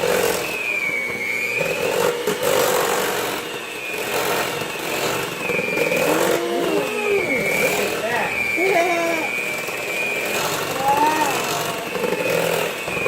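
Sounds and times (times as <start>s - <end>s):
electric hand mixer whine: 0.0s - 13.0s.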